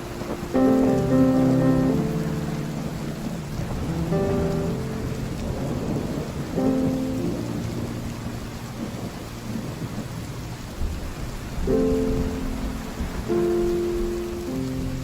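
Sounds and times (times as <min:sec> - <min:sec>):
soft sustained instrumental notes: 0:00.0 - 0:10.8, 0:11.7 - 0:15.0
heavy rain on a tin roof: 0:00.0 - 0:15.0
low rumble of thunder: 0:00.0 - 0:15.0.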